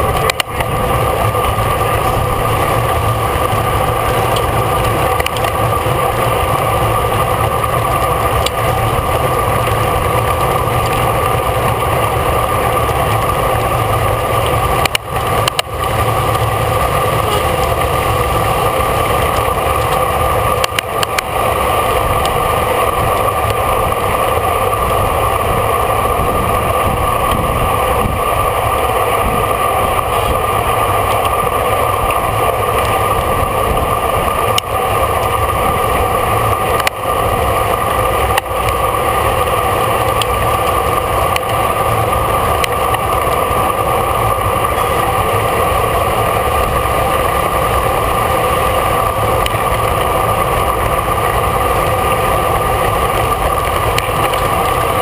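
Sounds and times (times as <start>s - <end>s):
wind and road noise from bicycle: 0.0s - 55.0s.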